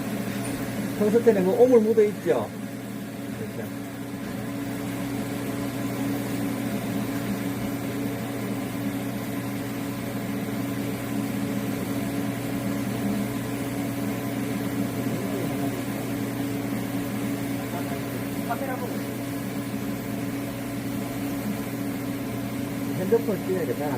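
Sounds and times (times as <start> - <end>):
welding equipment humming: 0.0 - 23.9.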